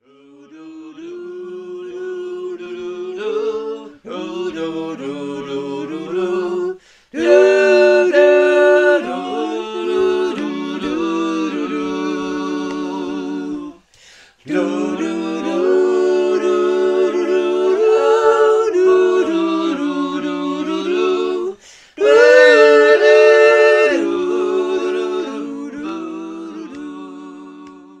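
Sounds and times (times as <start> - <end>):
group singing a cappella: 0.0 - 28.0.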